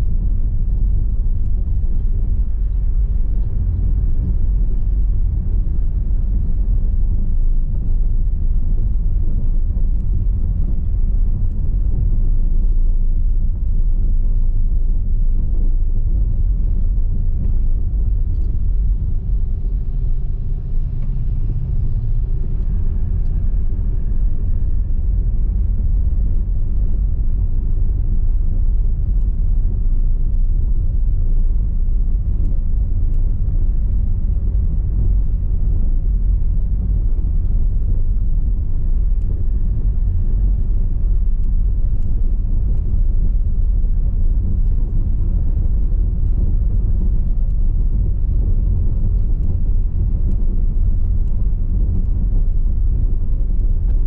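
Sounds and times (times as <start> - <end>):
car tyres rumbling on cobblestones: 0.0 - 54.0.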